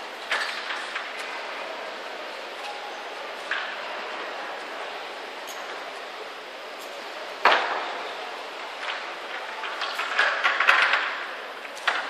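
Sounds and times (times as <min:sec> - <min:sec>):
echoing indoor hall noise: 0:00.0 - 0:12.0.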